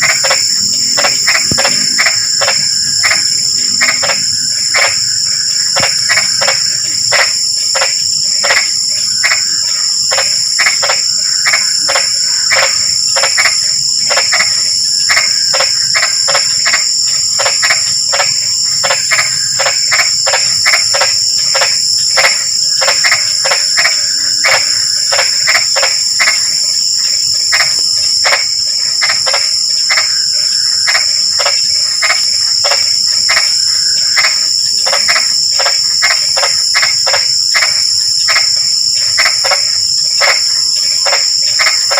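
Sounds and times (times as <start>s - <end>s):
crickets trilling: 0.0s - 41.9s
frogs croaking: 0.0s - 41.9s.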